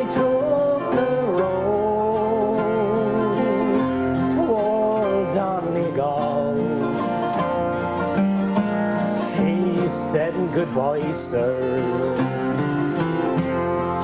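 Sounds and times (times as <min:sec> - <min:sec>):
man singing: 0:00.0 - 0:08.0, 0:08.9 - 0:14.0
electric bass guitar: 0:00.0 - 0:14.0
guitar: 0:00.0 - 0:14.0.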